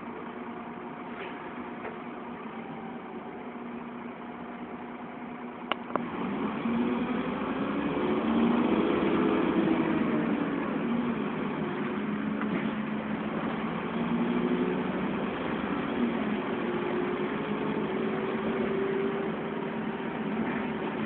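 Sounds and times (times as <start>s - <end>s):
bus diesel engine: 0.0s - 21.0s.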